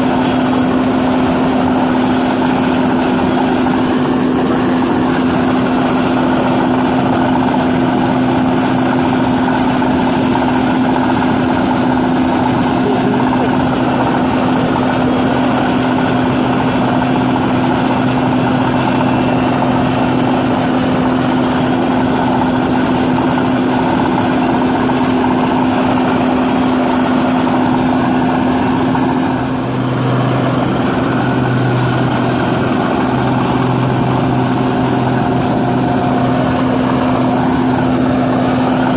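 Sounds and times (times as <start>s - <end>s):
combine harvester running: 0.0s - 38.9s
pulsing low hum: 0.0s - 38.9s.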